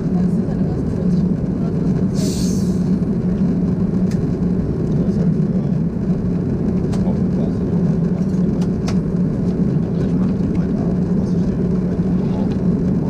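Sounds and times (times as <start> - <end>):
airplane cabin rumble in flight: 0.0 - 13.0.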